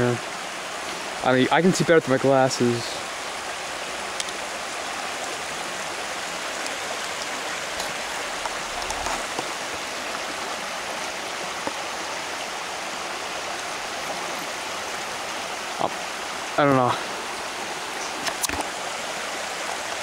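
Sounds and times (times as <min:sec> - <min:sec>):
creek flowing over rocks: 0:00.0 - 0:20.0.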